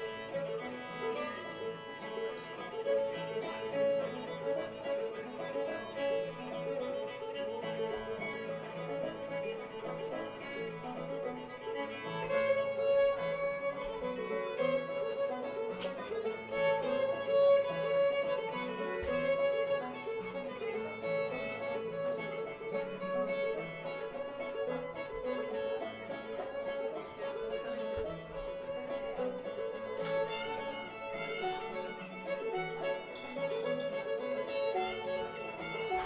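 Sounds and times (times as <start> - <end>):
fiddle melody: 0.0 - 36.0
string band playing: 0.0 - 36.0.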